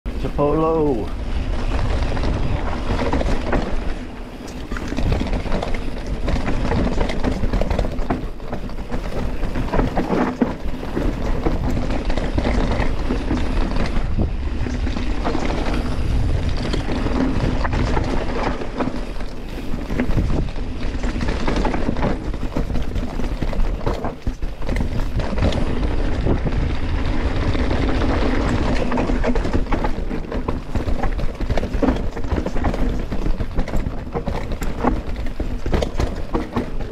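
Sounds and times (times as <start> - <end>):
bike rattling and knocking: 0.1 - 36.9
tyres rumbling over dirt: 0.1 - 36.9
wind buffeting microphone: 0.1 - 36.9.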